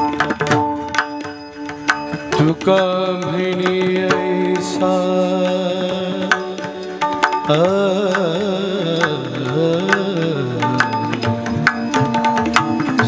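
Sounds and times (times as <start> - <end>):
held accompanying notes: 0.0 - 13.0
man singing melismatic line: 2.3 - 13.0.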